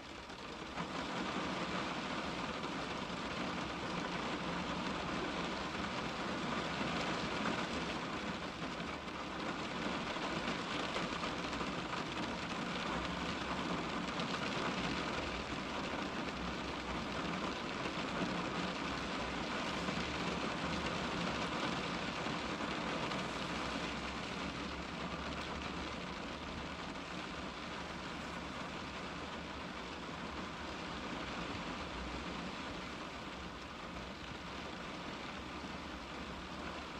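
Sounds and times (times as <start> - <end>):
rain pattering on car glass: 0.0 - 36.9.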